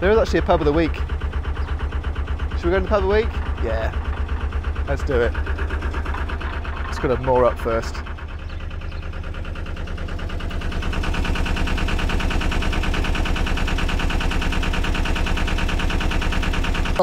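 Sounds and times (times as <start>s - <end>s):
boat diesel engine chugging: 0.0s - 17.0s.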